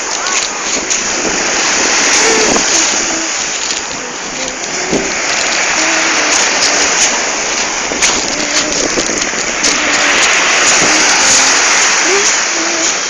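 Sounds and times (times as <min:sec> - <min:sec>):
ocean waves rushing: 0:00.0 - 0:13.0.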